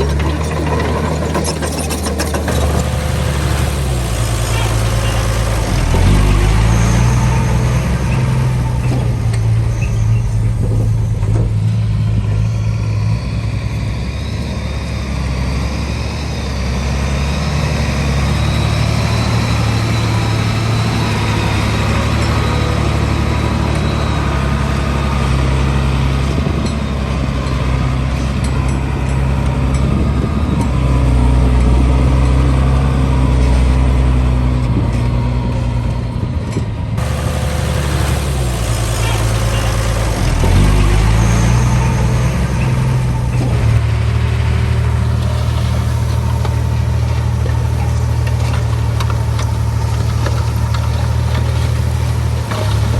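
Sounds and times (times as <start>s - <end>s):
heavy diesel engine under load: 0.0s - 52.9s.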